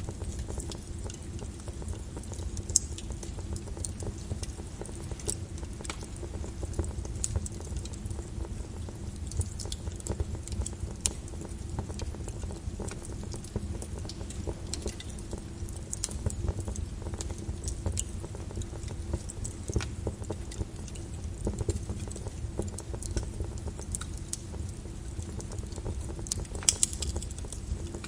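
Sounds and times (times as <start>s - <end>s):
lava crackling and popping: 0.0s - 28.0s
lava flow rumbling: 0.0s - 28.0s.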